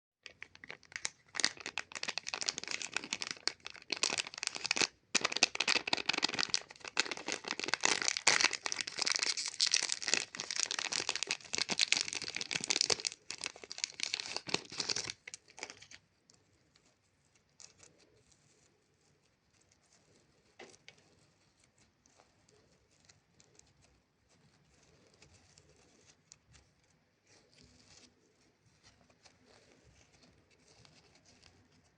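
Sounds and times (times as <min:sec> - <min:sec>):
plastic wrapper crinkling: 0:00.2 - 0:31.9.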